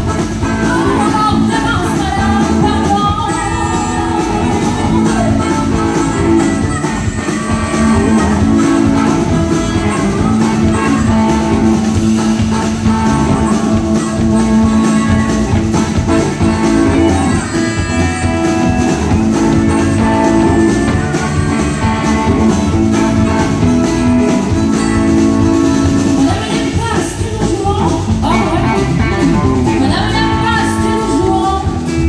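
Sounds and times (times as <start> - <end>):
live country band playing: 0.0 - 32.0
woman singing: 0.2 - 32.0.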